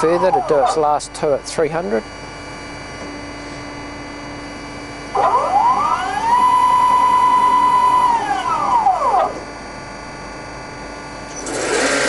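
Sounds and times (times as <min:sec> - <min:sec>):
machine motor hum: 0:00.0 - 0:12.0
motor whine rising in pitch: 0:00.0 - 0:12.0.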